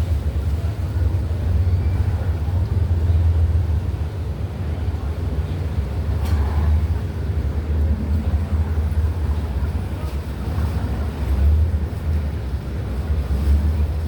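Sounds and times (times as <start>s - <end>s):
ferry engine rumble: 0.0s - 14.0s.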